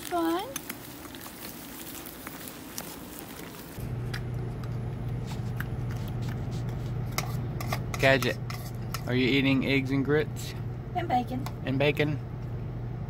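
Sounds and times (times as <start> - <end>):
low machine hum: 0.0 - 13.0
outdoor ambience: 0.0 - 13.0.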